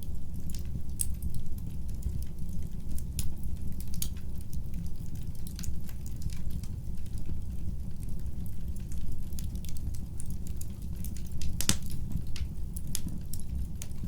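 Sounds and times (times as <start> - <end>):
fireplace fire crackling and popping: 0.0 - 14.0.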